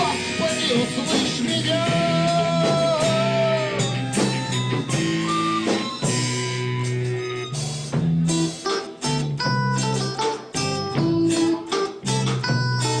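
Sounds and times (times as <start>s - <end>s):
drum kit: 0.0s - 13.0s
guitar playing: 0.0s - 13.0s.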